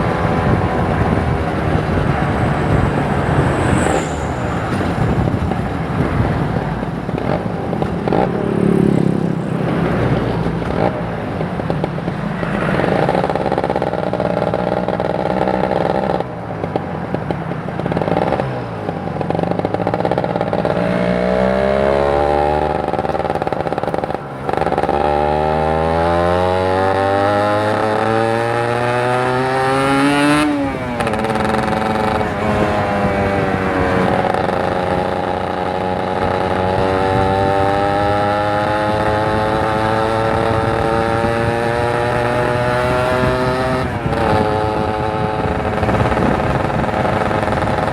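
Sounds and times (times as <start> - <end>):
motorcycle engine accelerating: 0.0 - 47.9
wind and road noise: 0.0 - 47.9.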